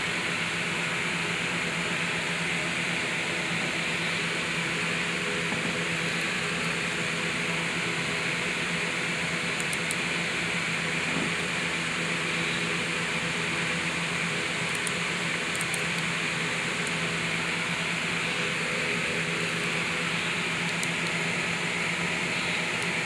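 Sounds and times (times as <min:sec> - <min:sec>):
fan-like hum: 0:00.0 - 0:23.0.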